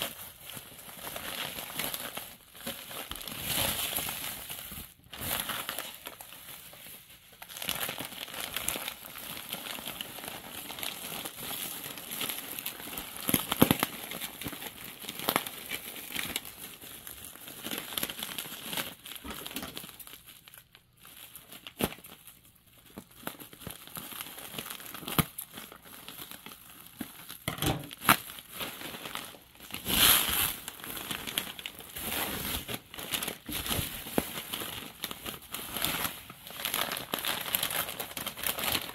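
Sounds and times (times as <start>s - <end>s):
bubble wrap and plastic crinkling: 0.0s - 38.9s.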